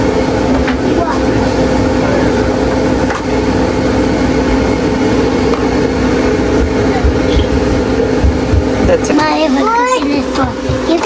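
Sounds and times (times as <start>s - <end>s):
constant whirring: 0.0s - 11.0s
mechanical hum: 0.0s - 11.0s.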